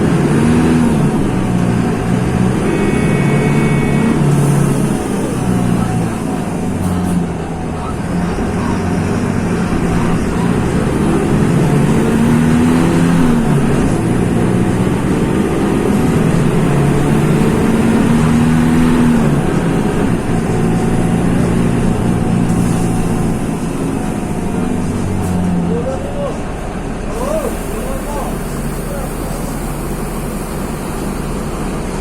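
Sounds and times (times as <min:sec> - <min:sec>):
bus diesel engine revving: 0:00.0 - 0:32.0.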